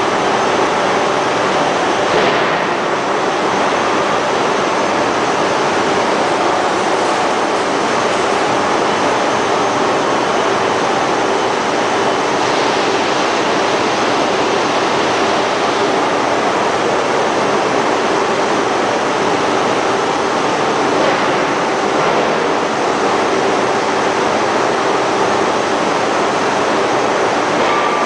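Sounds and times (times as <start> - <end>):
loud machinery roar: 0.0 - 28.0.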